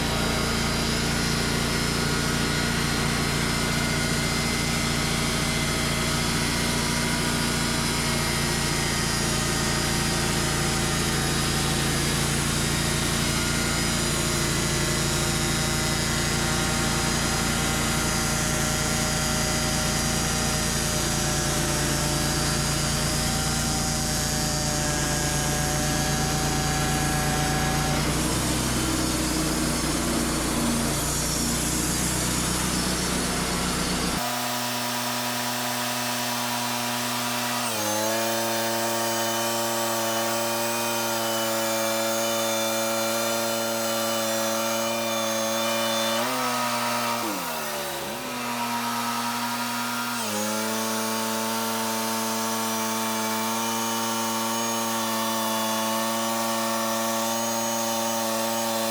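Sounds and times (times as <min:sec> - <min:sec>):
band blade sawing log: 0:00.0 - 0:58.9
bandsaw mill engine: 0:00.0 - 0:58.9.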